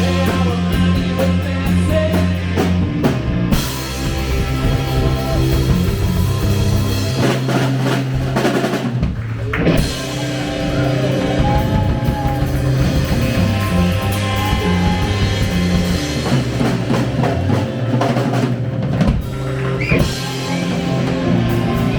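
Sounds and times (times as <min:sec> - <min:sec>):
bass guitar: 0:00.0 - 0:21.9
drum kit: 0:00.0 - 0:21.9
electric guitar: 0:00.0 - 0:21.9
rock band playing: 0:00.0 - 0:21.9.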